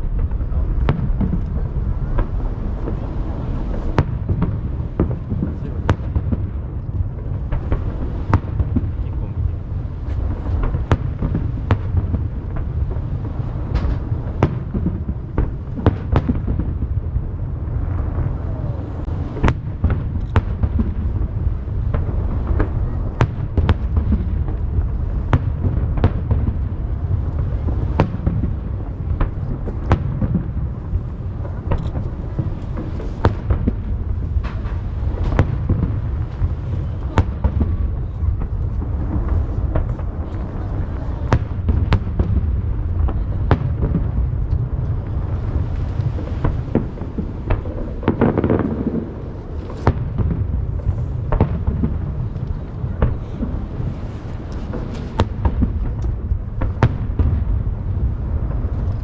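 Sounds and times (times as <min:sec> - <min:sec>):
continuous low rumble: 0:00.0 - 0:59.0.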